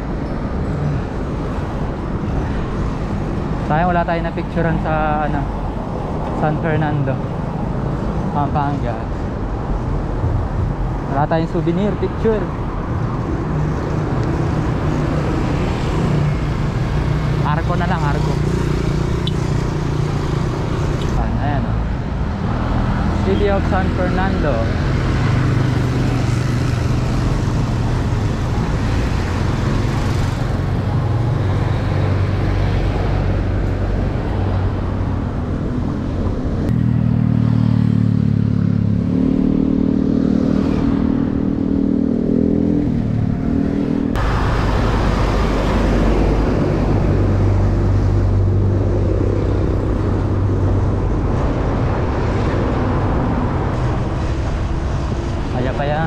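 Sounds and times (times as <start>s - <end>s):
road and wind noise: 0.0s - 56.0s
vehicle engines droning: 0.0s - 56.0s.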